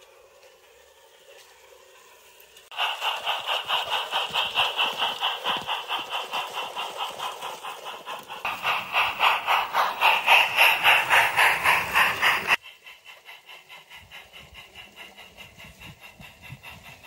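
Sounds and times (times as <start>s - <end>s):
model train running: 0.0s - 17.0s.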